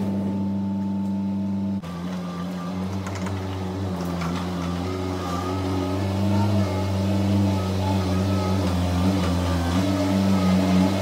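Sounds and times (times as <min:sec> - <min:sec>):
loader engine running: 0:00.0 - 0:11.0.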